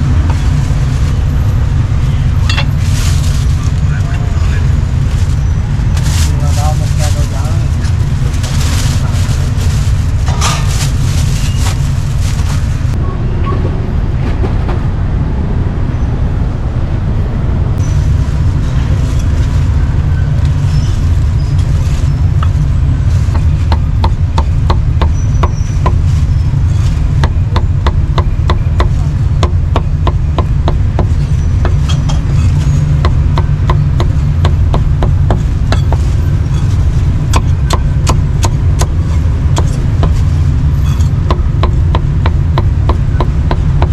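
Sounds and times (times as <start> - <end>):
street traffic rumble: 0.0 - 43.9.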